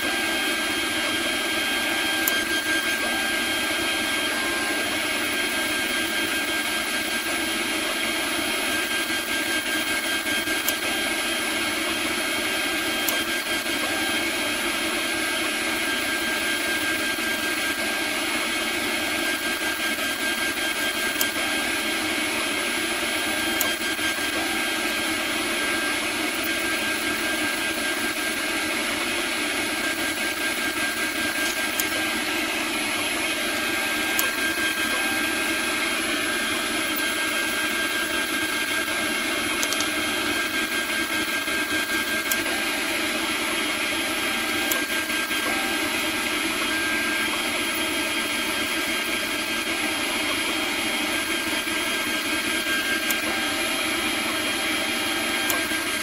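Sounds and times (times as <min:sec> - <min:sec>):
router spindle whining: 0:00.0 - 0:56.0.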